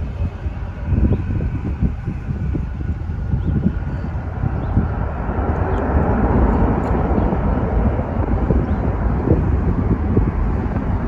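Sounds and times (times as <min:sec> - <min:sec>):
distant jet engine roar: 0:00.0 - 0:11.0
wind buffeting microphone: 0:00.0 - 0:11.0.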